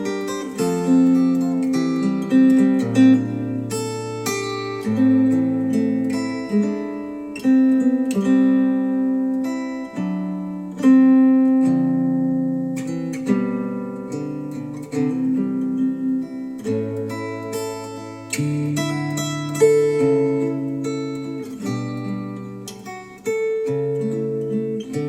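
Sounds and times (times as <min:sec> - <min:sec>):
acoustic guitar chords over speakers: 0:00.0 - 0:25.0.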